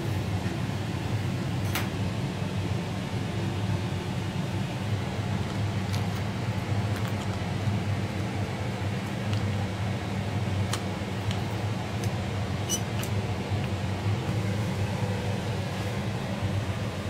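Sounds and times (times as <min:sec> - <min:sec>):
ventilation fan humming: 0:00.0 - 0:17.0.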